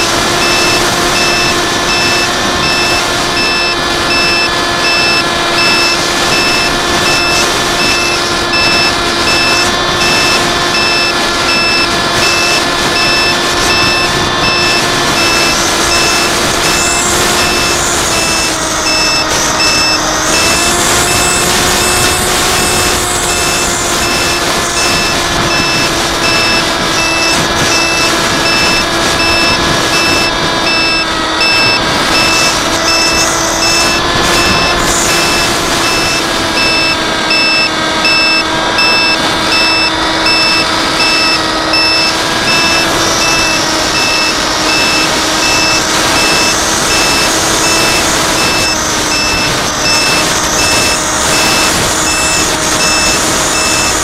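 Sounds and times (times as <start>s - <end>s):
high electronic beeping: 0.0s - 54.0s
steady pitched hum: 0.0s - 54.0s.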